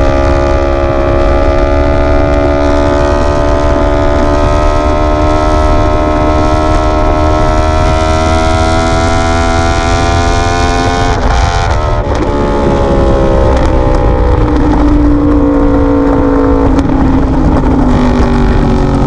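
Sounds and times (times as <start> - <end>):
low rumble: 0.0 - 10.0, 10.6 - 19.0
motorcycle engine revving under load: 0.0 - 19.0.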